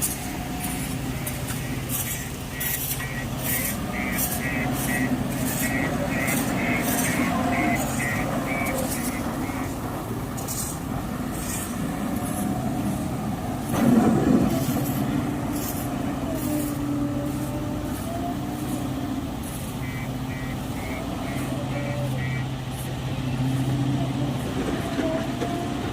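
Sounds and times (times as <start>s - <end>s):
diesel engine under load: 0.0s - 25.9s.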